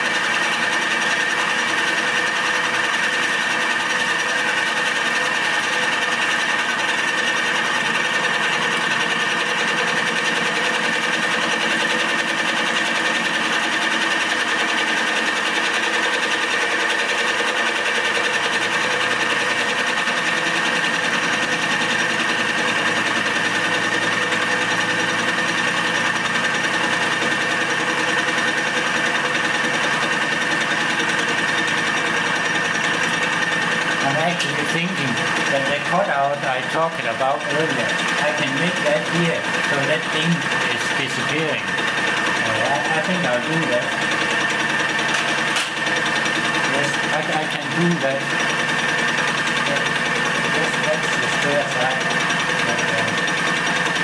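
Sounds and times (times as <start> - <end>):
milling machine cutting metal: 0.0 - 54.0.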